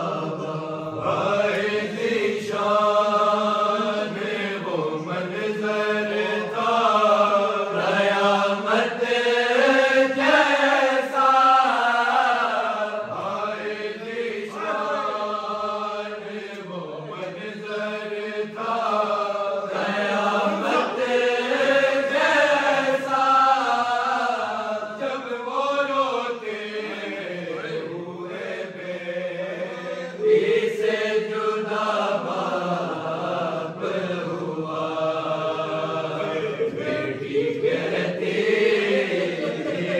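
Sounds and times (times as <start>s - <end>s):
men chanting: 0.0s - 39.9s.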